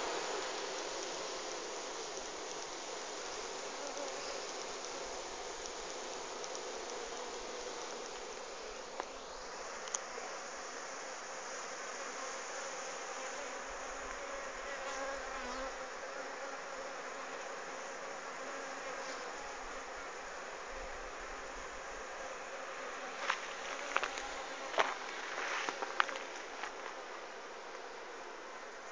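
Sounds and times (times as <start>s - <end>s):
bee swarm humming: 0.0s - 28.9s.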